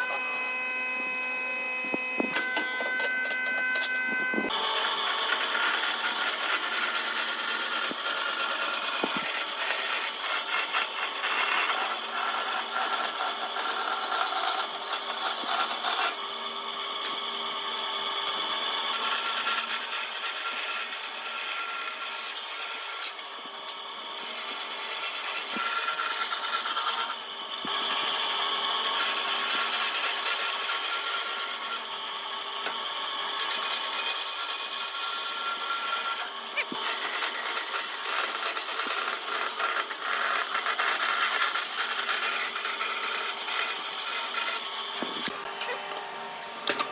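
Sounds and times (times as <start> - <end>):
motor humming: 0.0 - 46.9
power tool rasping wood: 0.0 - 46.9.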